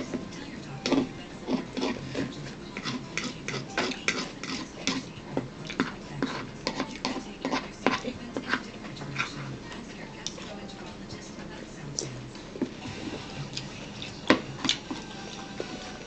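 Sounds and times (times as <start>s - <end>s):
wet chewing and eating noises: 0.0s - 16.0s.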